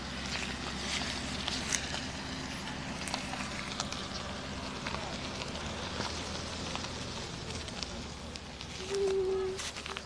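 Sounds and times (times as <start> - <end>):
car engine idling: 0.0 - 10.0
light clicks and crackles: 0.2 - 10.0.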